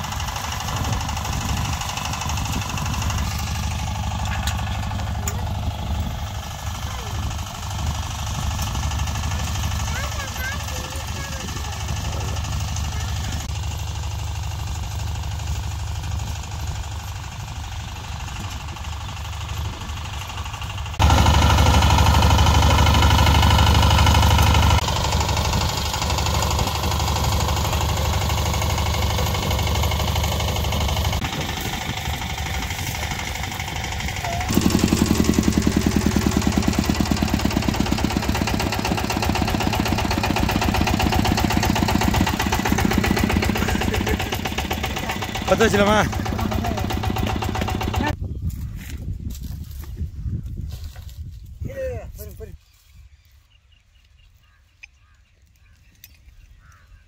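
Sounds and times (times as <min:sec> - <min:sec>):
tiller diesel engine running: 0:00.0 - 0:48.2.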